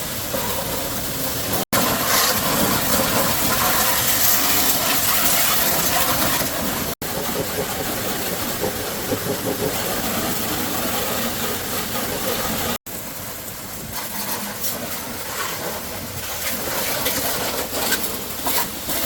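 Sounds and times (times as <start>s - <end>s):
engine running: 0.0s - 19.0s
rushing hiss: 0.0s - 19.0s.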